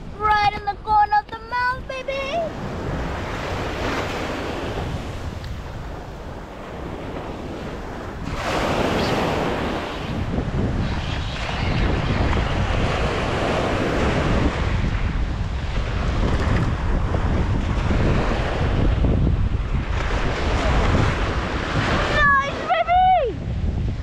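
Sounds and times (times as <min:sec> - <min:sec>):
surf washing: 0:00.0 - 0:24.0
wind buffeting microphone: 0:00.0 - 0:24.0.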